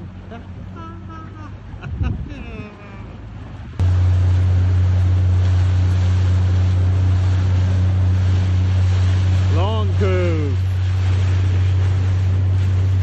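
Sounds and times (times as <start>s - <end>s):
boat motor humming: 0.0s - 13.0s
water noise: 0.0s - 13.0s.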